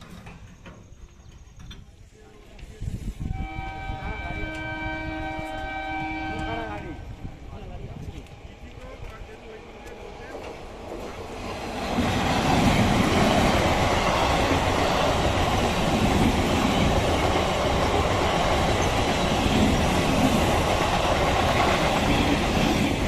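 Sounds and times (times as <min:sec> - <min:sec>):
train passing at speed: 0:02.5 - 0:23.0.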